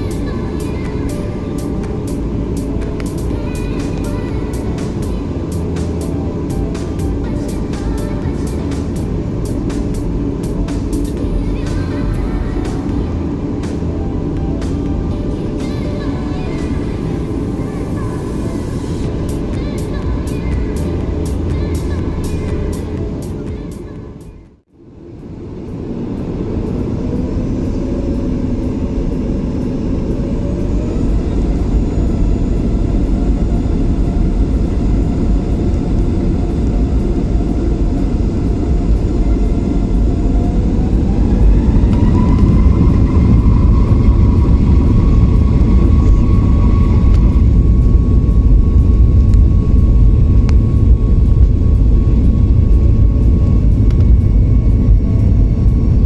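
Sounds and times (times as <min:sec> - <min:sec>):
jet engine whine rising: 0:00.0 - 0:56.0
jet engines rumbling: 0:00.0 - 0:56.0.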